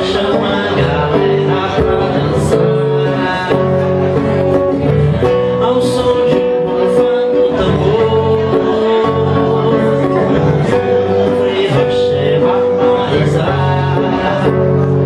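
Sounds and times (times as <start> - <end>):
classical guitar: 0.0 - 15.0
man singing: 0.0 - 15.0.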